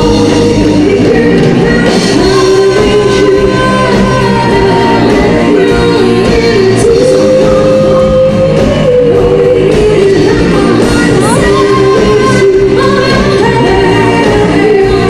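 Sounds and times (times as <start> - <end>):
live band music: 0.0 - 15.0
woman singing: 0.0 - 15.0.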